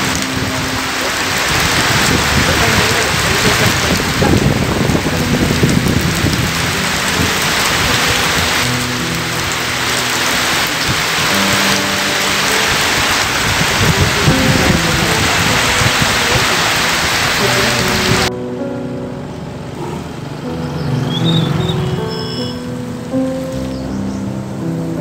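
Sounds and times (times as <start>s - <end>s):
heavy rain on gravel and puddles: 0.0s - 18.3s, 22.2s - 24.2s.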